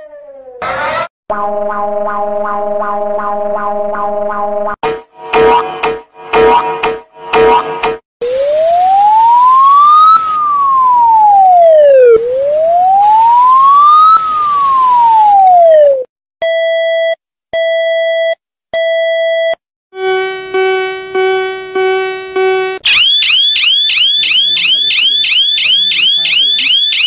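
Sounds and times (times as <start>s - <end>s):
rising and falling siren tone: 0.0s - 16.1s, 20.0s - 27.0s.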